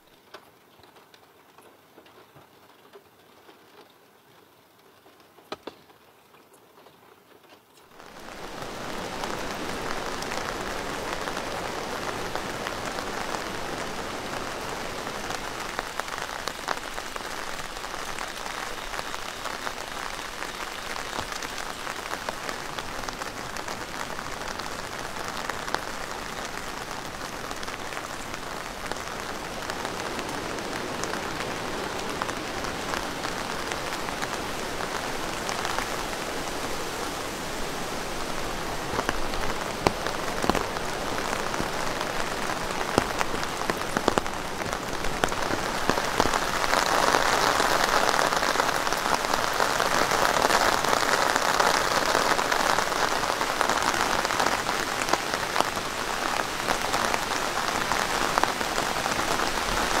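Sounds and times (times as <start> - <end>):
raindrops ticking: 0.0 - 60.0
heavy rain falling: 7.8 - 60.0.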